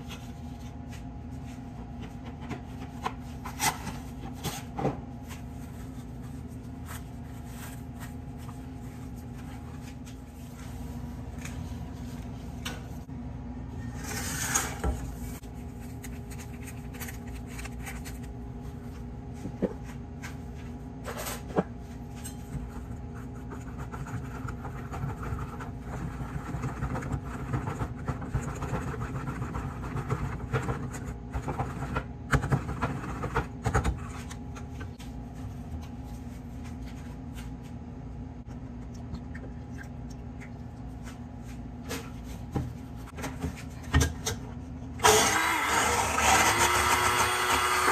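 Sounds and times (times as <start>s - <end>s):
steady low hum: 0.0s - 45.1s.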